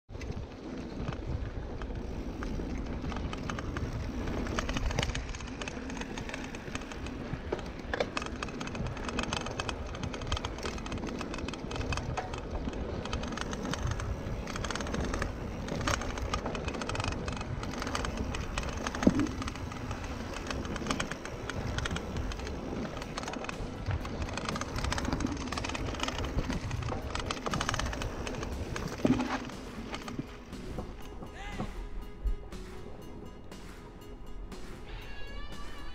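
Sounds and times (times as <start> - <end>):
wind rumble on microphone: 0.1 - 31.0
bike clicks and rattles: 0.1 - 31.3
bike tyres rolling on dirt: 0.1 - 31.3.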